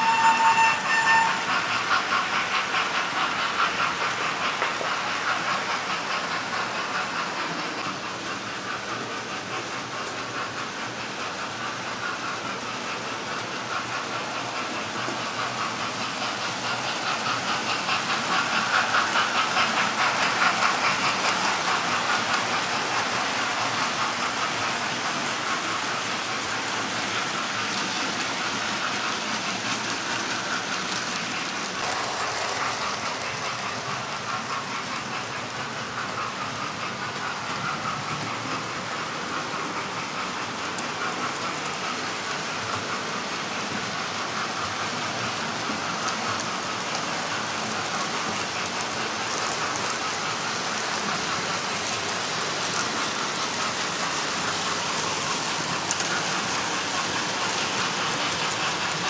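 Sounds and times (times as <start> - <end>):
model trains whirring: 0.0 - 59.0
wheels clicking on track: 0.0 - 59.0.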